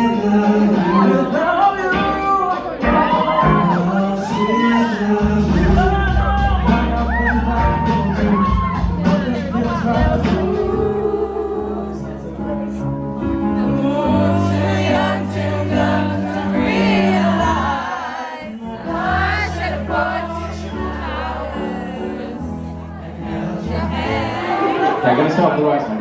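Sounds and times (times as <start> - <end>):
live pop music with singing: 0.0 - 26.0.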